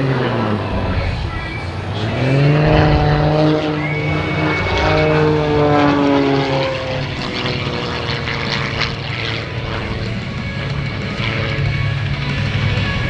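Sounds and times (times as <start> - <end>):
plane propeller and engine: 0.0 - 13.0.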